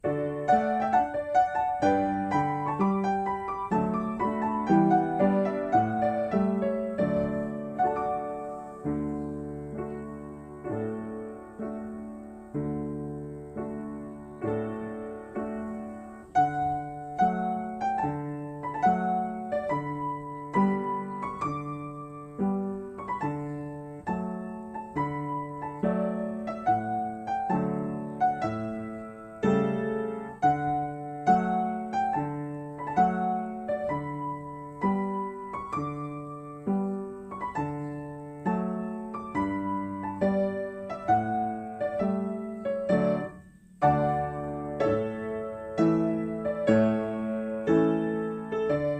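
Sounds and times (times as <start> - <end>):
piano music with steady beat: 0.0 - 48.9.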